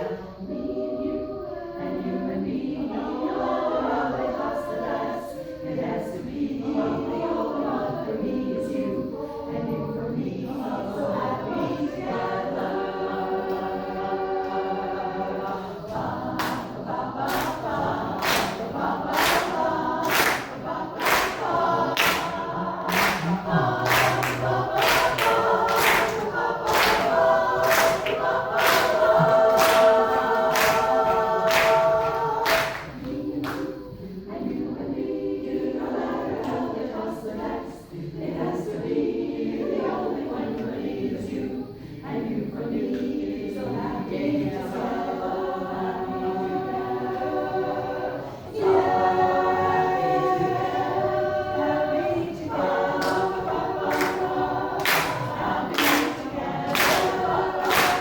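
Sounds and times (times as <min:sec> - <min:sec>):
a cappella group singing: 0:00.0 - 0:58.0.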